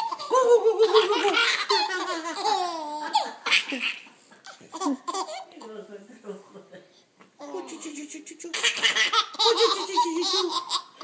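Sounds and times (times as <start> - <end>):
baby laughing: 0.0 - 5.6, 7.4 - 11.0.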